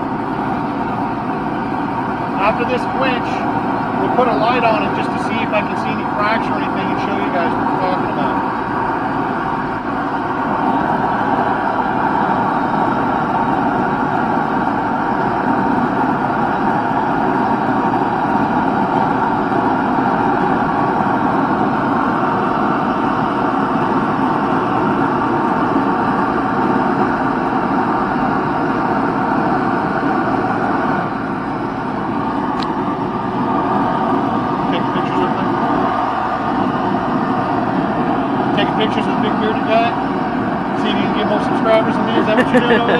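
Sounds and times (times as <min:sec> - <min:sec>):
forge running: 0:00.0 - 0:42.9.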